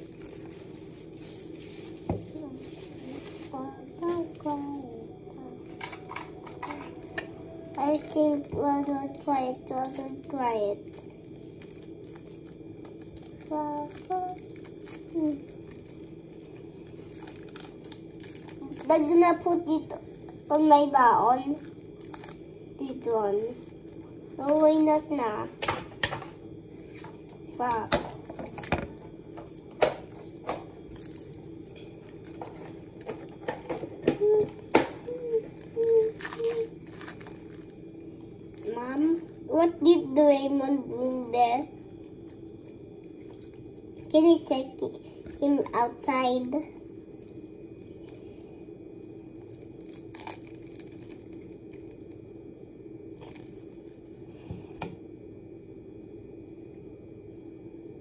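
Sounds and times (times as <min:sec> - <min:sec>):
plastic wrap crinkling: 0:00.0 - 0:52.3, 0:53.1 - 0:54.4
faint hum: 0:00.0 - 0:58.0.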